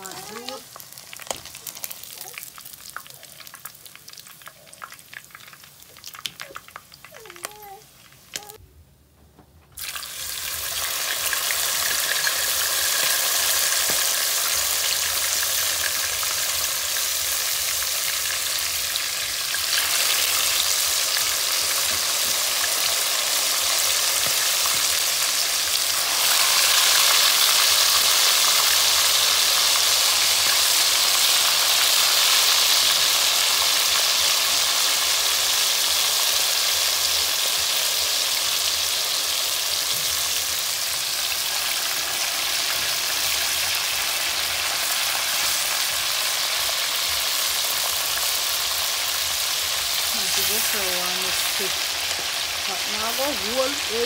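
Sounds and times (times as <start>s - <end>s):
chicken sizzling in hot oil: 0.0s - 8.6s, 9.8s - 54.0s.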